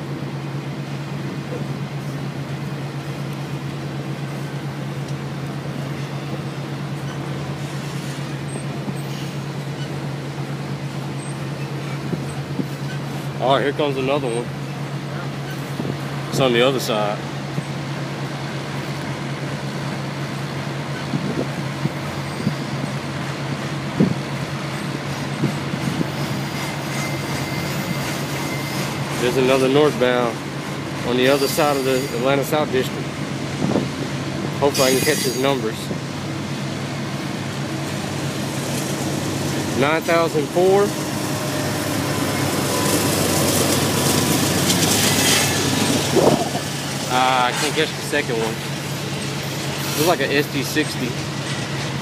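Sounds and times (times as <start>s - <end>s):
freight train wheels rumbling on rail: 0.0s - 52.0s.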